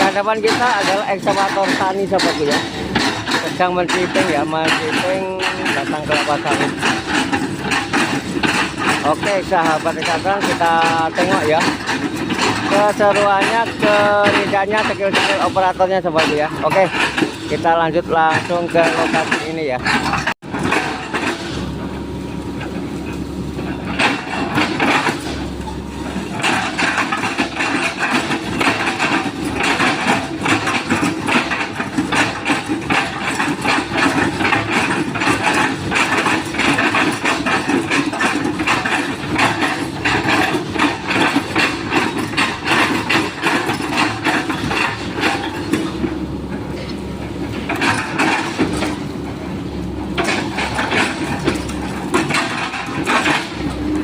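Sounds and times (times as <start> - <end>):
excavator engine: 0.0 - 54.0.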